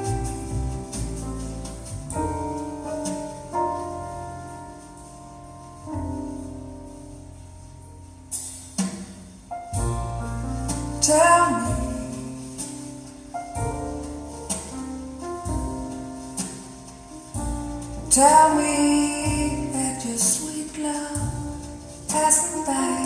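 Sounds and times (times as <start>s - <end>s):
low bass line: 0.0s - 20.1s, 21.1s - 23.0s
piano chords: 0.0s - 23.0s.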